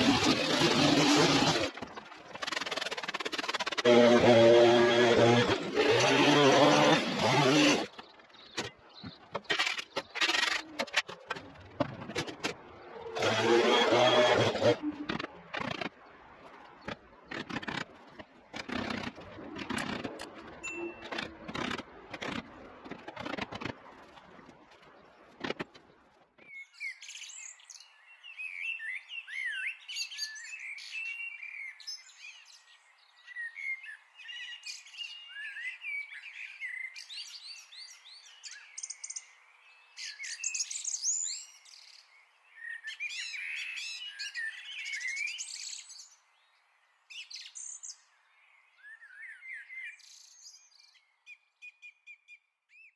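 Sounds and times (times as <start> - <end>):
birds chirping and warbling: 0.0 - 24.2, 24.8 - 52.9.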